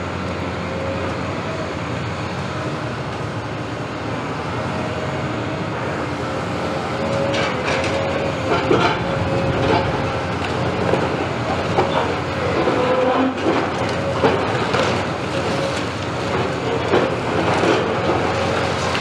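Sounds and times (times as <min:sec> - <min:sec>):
excavator running under load: 0:00.0 - 0:19.0.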